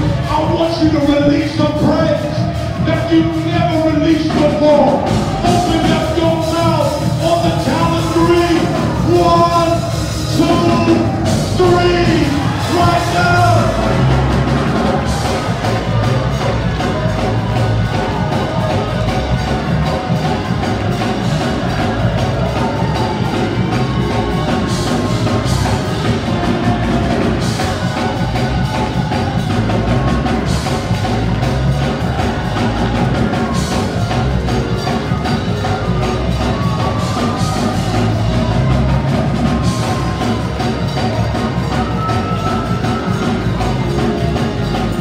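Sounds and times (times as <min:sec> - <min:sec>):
heavy percussion strikes: 0:00.0 - 0:45.0
up-tempo church music: 0:00.0 - 0:45.0.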